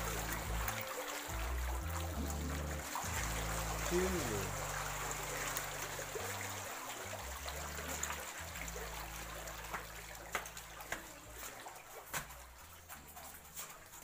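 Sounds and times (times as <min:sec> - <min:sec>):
small clicks and splashes: 0:00.0 - 0:14.0
water trickling: 0:00.0 - 0:14.0.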